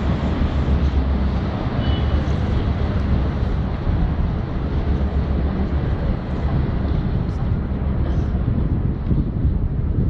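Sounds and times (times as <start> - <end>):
boat engine rumble: 0.0 - 10.0
wind buffeting microphone: 0.0 - 10.0.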